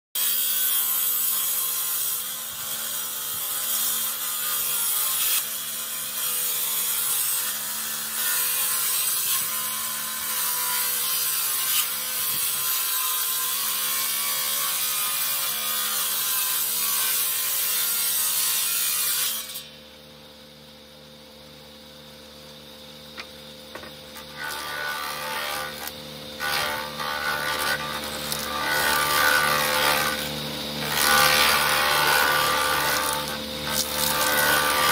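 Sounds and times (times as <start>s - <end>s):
saw cutting wooden board: 0.2s - 19.8s, 23.1s - 34.9s.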